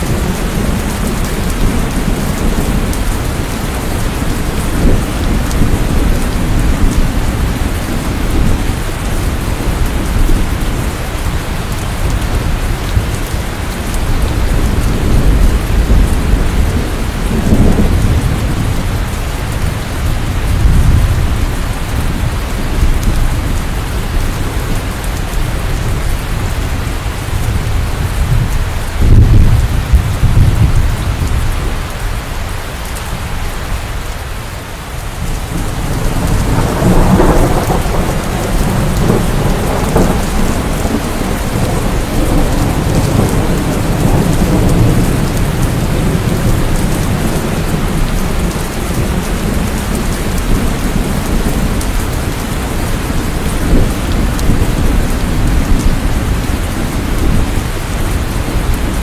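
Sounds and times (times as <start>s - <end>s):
rolling thunder: 0.0s - 32.0s, 35.1s - 59.0s
steady rain: 0.0s - 59.0s.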